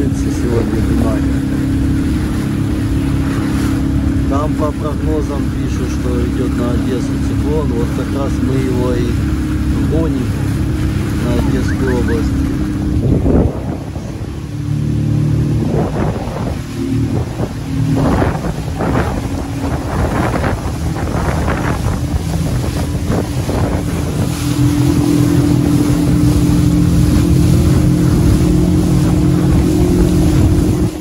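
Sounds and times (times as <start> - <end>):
motorboat engine running: 0.0 - 31.0
water splashing off hull: 0.0 - 31.0
wind buffeting microphone: 0.0 - 31.0.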